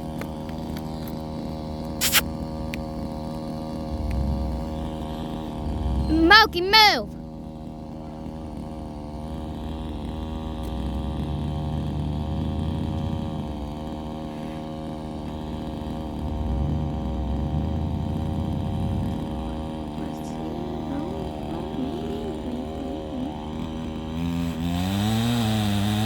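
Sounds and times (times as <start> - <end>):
low-pitched engine running: 0.0 - 26.0.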